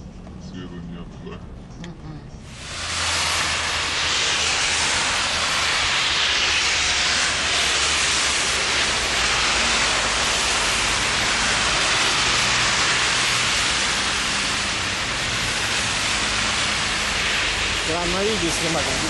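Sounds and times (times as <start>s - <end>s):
traffic on slushy road: 2.5s - 19.0s.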